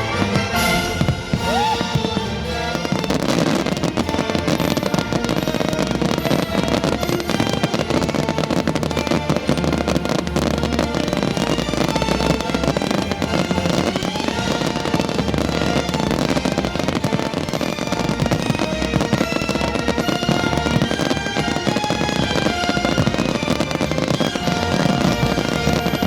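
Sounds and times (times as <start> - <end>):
fireworks banging and crackling: 0.0 - 26.0
loud music: 0.0 - 26.0.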